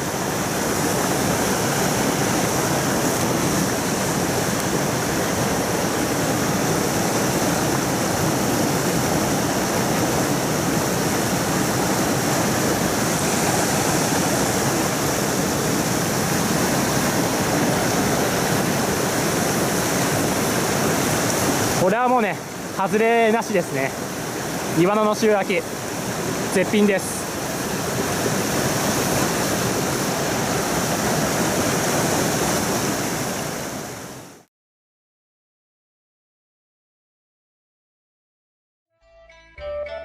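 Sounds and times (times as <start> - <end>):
stream rushing over rocks: 0.0 - 34.5.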